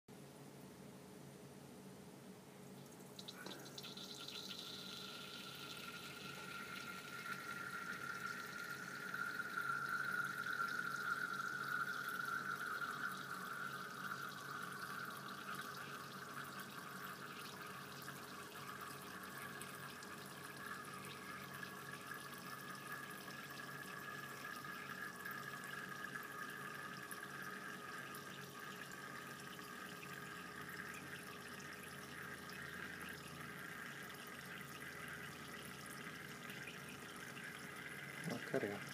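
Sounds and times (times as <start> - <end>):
thin stream of running water: 2.7 - 38.9.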